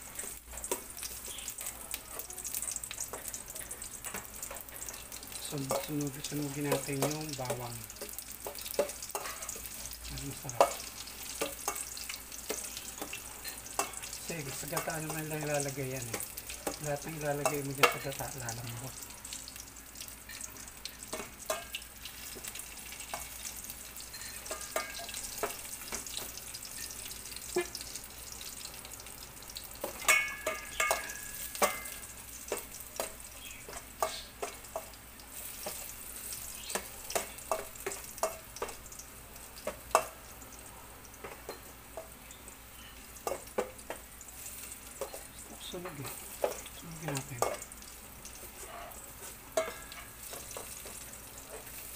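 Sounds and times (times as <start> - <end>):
food sizzling in oil: 0.0 - 51.9.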